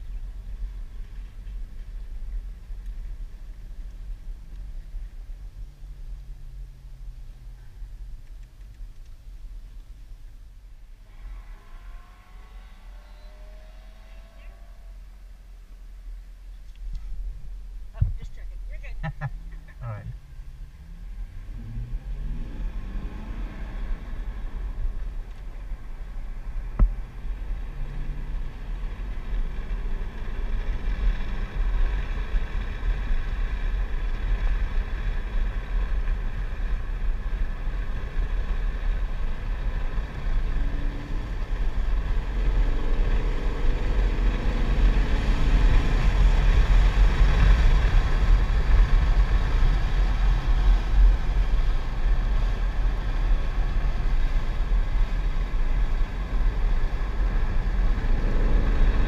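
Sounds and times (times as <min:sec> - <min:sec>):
car engine running hard: 0:00.0 - 0:59.0
road and wind noise: 0:00.0 - 0:59.0.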